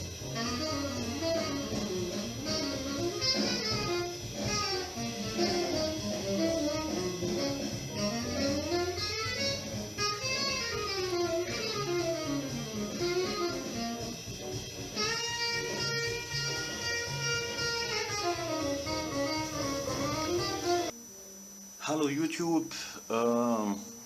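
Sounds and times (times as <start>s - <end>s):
guitar-led instrumental music: 0.0s - 20.9s.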